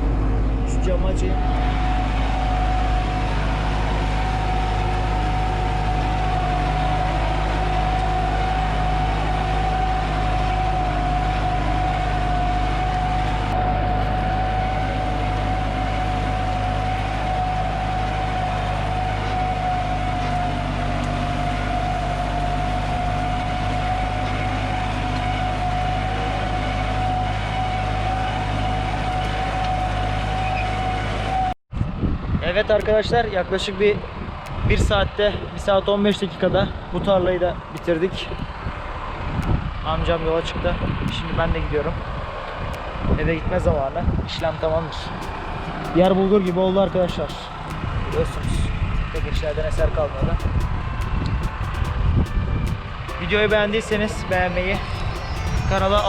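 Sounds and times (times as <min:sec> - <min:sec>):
tractor engine running: 0:00.0 - 0:31.5, 0:34.2 - 0:56.0.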